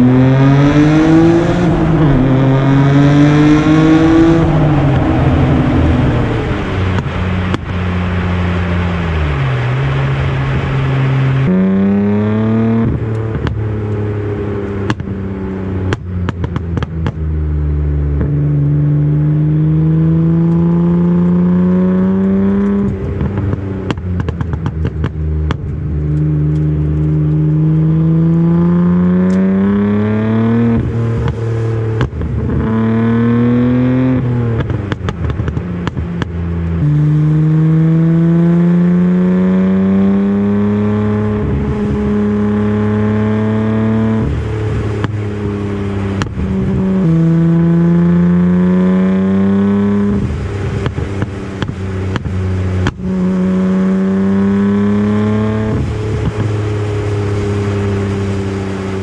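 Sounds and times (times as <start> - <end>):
car engine revving: 0.0 - 59.0
exhaust clicking and crackling: 1.5 - 11.6, 12.8 - 19.4, 20.4 - 38.4, 39.1 - 59.0.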